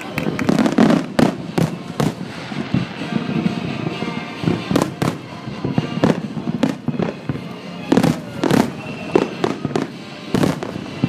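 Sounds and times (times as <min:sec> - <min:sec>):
firework bangs: 0:00.0 - 0:11.0
fireworks rumbling: 0:00.0 - 0:11.0.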